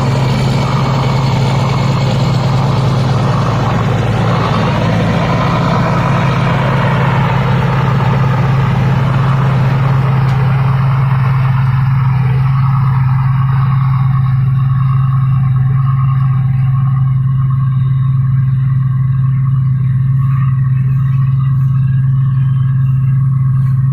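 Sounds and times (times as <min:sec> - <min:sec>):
diesel engine running steadily: 0:00.0 - 0:23.9.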